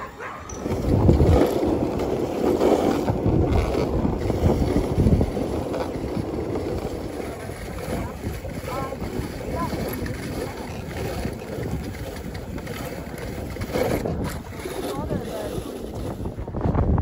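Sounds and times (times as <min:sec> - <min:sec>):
sled runners scraping on snow: 0:00.0 - 0:16.7
sled bumps and knocks: 0:00.0 - 0:17.0
wind on microphone: 0:00.0 - 0:17.0.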